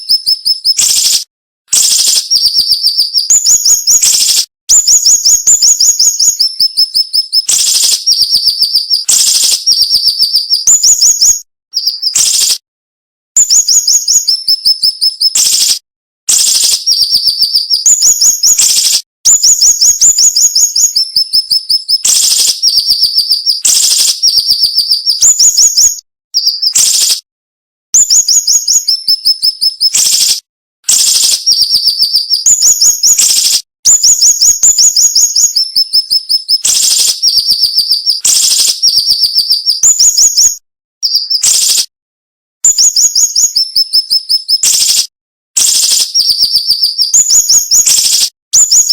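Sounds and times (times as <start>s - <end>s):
bird singing rapid high notes: 0.0s - 1.2s, 1.8s - 12.6s, 13.4s - 27.2s, 28.0s - 30.4s, 31.0s - 41.9s, 42.6s - 45.0s, 45.6s - 48.9s.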